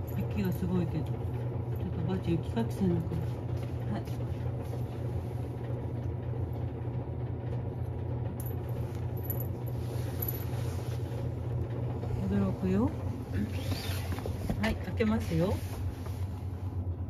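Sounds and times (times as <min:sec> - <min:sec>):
heater fan humming: 0:00.0 - 0:17.0.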